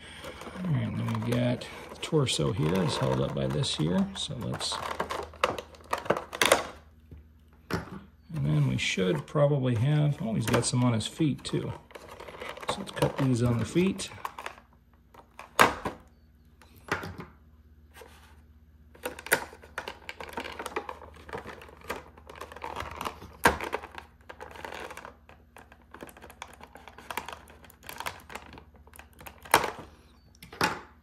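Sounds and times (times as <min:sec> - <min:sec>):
plastic tray crinkling and rattling: 0:00.0 - 0:06.9, 0:07.6 - 0:16.1, 0:18.9 - 0:29.9.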